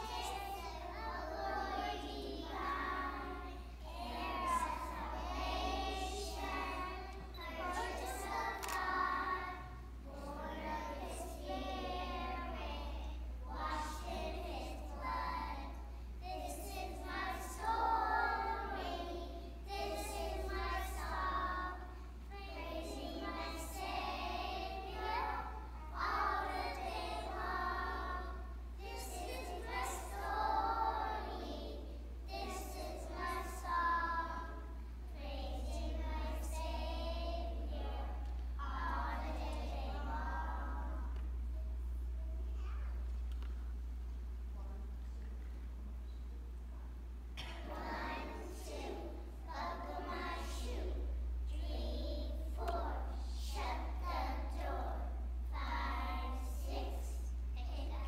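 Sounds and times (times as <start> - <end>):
young children singing together: 0.0 - 41.8, 47.3 - 58.0.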